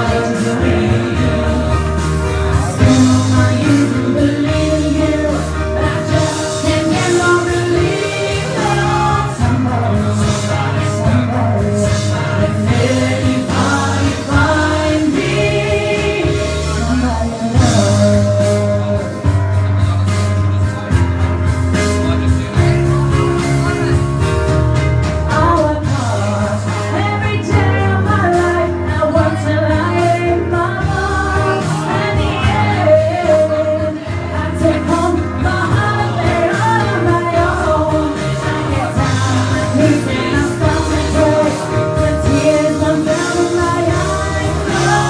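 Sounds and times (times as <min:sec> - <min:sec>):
man singing into a microphone: 0:00.0 - 0:20.9, 0:25.3 - 0:45.0
musical accompaniment with bass: 0:00.0 - 0:45.0.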